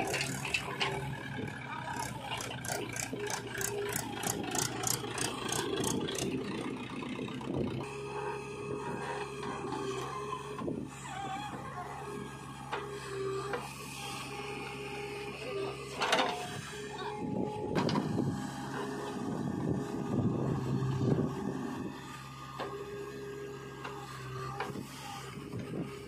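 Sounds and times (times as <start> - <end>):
diesel engine with hydraulic whine: 0.0 - 26.0.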